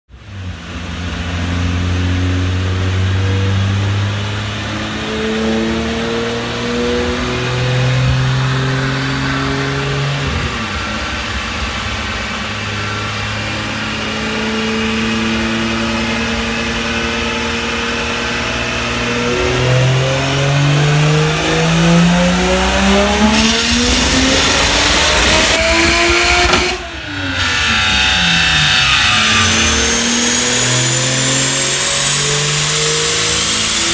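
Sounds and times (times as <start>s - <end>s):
turbocharged car engine revving: 0.1s - 33.9s.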